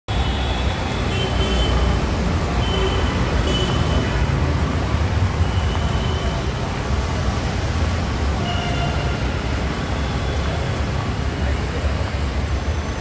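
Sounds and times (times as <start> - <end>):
road traffic rumble: 0.1 - 13.0.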